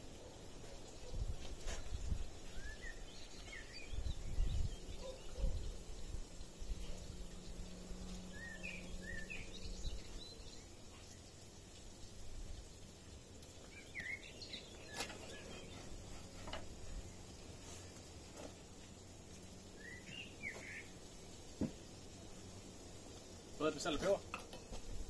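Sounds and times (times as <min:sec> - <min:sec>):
faint outdoor background noise: 0:00.0 - 0:25.0
small birds chirping: 0:00.0 - 0:25.0.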